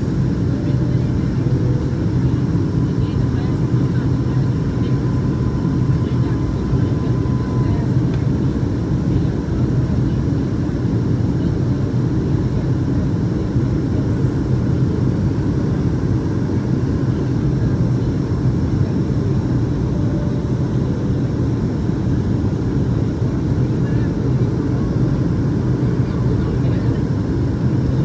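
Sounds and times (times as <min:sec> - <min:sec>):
airplane cabin low rumble: 0:00.0 - 0:28.0.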